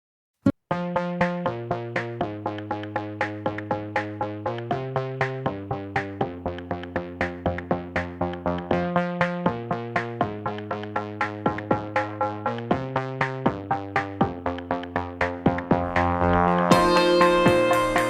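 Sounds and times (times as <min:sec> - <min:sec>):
synthesizer chords: 0:00.7 - 0:18.0
drum machine beat: 0:00.8 - 0:18.0.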